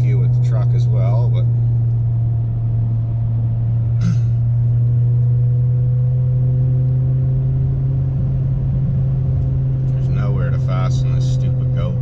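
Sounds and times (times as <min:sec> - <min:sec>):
car engine drone from inside: 0:00.0 - 0:12.0.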